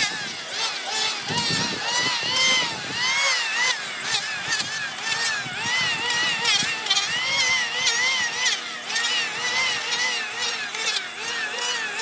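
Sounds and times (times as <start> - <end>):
power tool whining into wood: 0.0 - 12.0.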